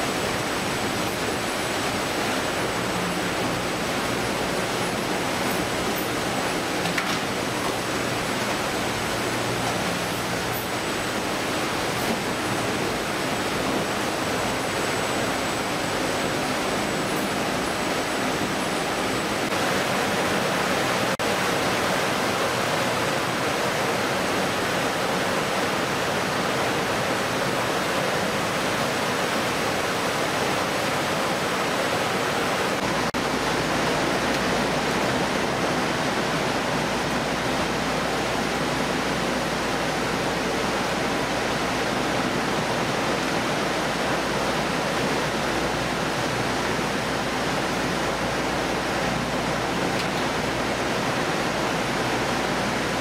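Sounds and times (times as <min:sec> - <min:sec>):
water spraying and running: 0:00.0 - 0:53.0.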